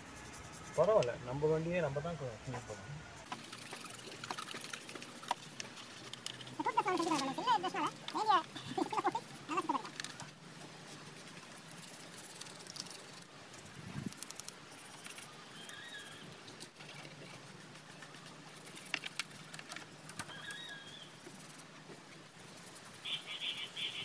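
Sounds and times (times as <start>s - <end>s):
scrubbing a wheel: 2.6s - 24.0s.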